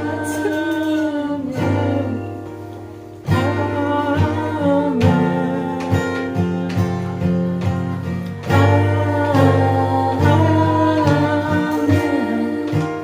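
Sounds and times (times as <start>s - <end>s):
person singing: 0.0s - 2.6s, 3.2s - 13.0s
acoustic guitar strumming: 0.0s - 13.0s.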